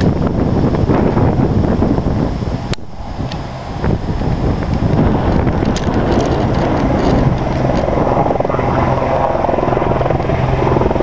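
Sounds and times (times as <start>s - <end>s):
helicopter rotor and engine rumble: 0.0s - 11.0s.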